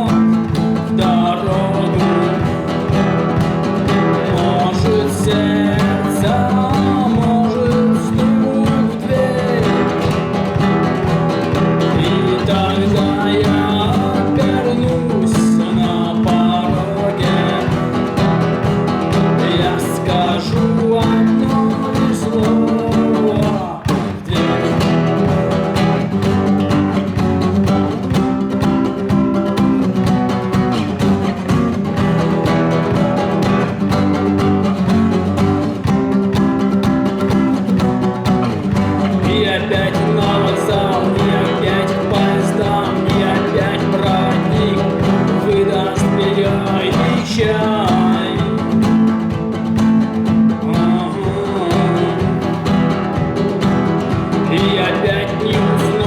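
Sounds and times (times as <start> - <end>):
rock band with guitar and drums: 0.0 - 56.0.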